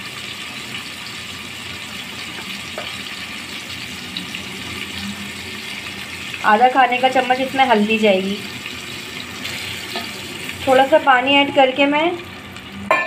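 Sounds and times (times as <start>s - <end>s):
ghee sizzling in a pot: 0.0s - 13.0s.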